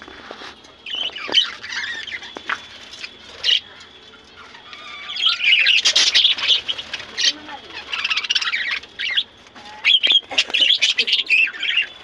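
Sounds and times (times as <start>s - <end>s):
wings fluttering: 0.0s - 11.9s
budgerigars chattering and squawking: 0.8s - 12.0s.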